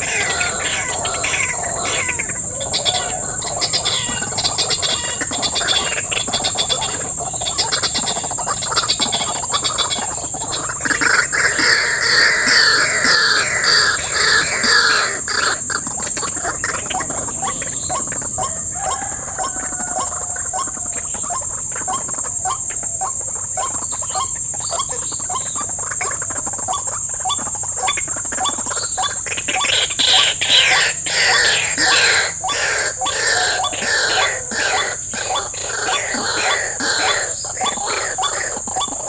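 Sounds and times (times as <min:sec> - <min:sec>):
high drone of insects: 0:00.0 - 0:39.0
waterhens calling: 0:00.0 - 0:39.0.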